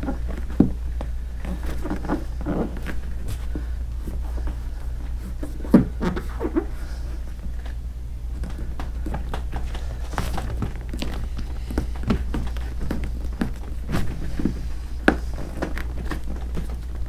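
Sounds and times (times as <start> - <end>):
hands tapping and rubbing vinyl: 0.0 - 17.0
steady low hum: 0.0 - 17.0.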